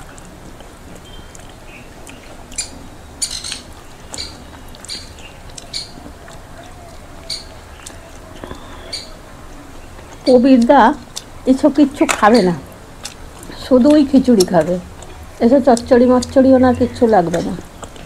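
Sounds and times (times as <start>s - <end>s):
low steady background: 0.0s - 18.0s
lip smacks and chewing: 0.1s - 9.2s, 9.9s - 11.4s, 12.7s - 16.4s, 17.2s - 18.0s.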